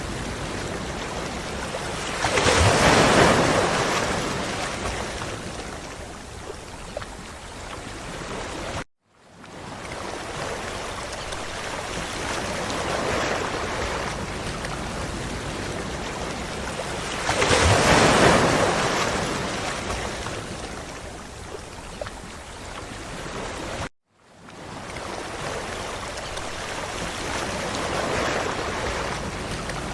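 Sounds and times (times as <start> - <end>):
ocean waves washing onto beach: 0.0 - 29.9.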